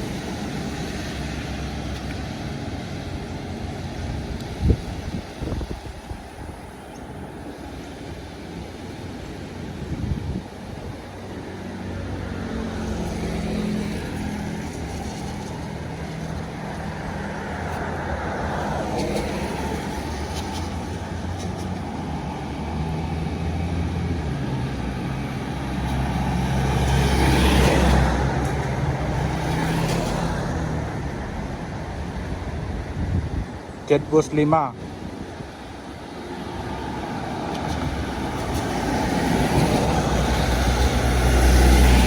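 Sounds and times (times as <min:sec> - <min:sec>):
heavy vehicles passing: 0:00.0 - 0:42.0.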